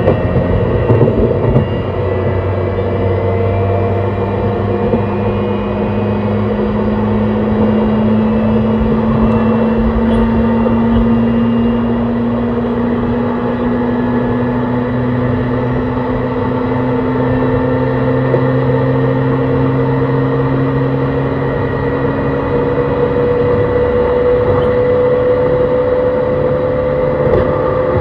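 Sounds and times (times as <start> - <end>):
electric train motor hum rising: 0.0 - 28.0
running train rumble: 0.0 - 28.0.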